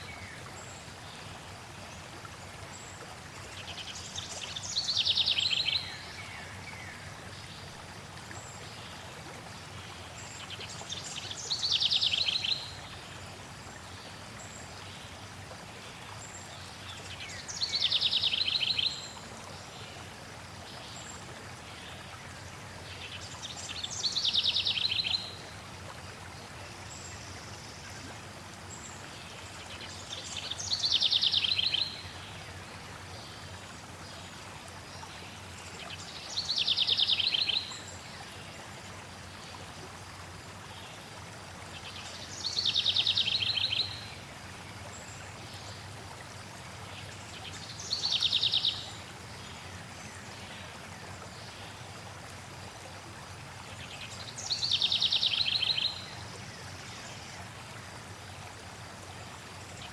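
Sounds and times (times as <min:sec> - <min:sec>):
flowing water hiss: 0:00.0 - 0:59.9.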